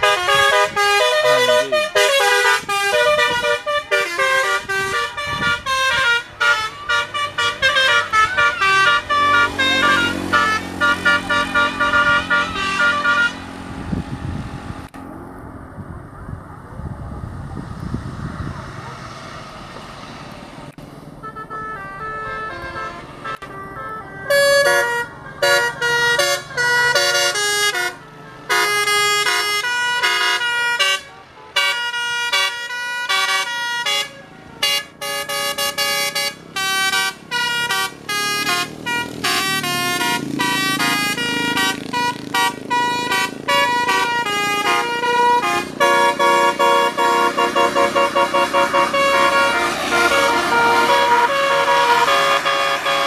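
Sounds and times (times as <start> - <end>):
musical air horn tune: 0.0 - 13.6, 21.2 - 53.0.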